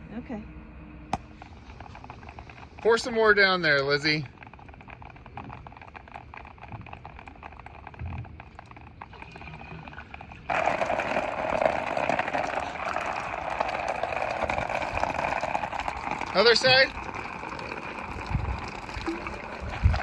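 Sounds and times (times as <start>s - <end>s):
water rushing through fitting: 1.2s - 20.0s.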